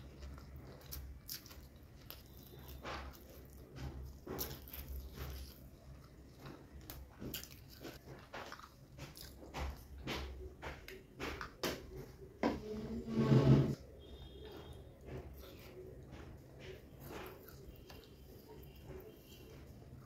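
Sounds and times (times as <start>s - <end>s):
person chewing with wet smacking: 0.0s - 12.4s, 13.9s - 20.0s.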